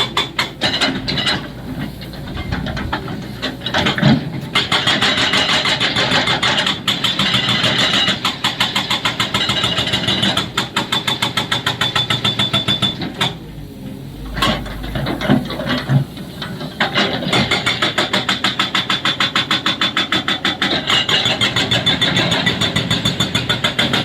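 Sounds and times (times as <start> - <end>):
hydraulic breaker hammering rock: 0.0 - 13.4, 14.4 - 24.0
machine engine rumble: 0.0 - 24.0.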